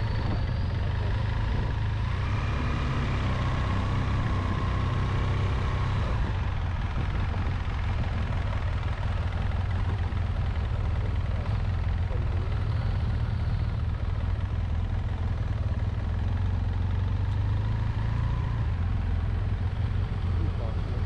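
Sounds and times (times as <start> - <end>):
motorcycle engine and wind rumble: 0.0 - 21.0.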